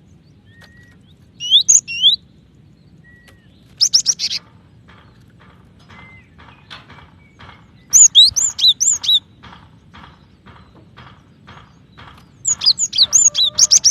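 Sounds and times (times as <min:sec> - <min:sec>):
bird chirping: 0:00.0 - 0:13.9
faint repeated bird notes: 0:00.0 - 0:13.9.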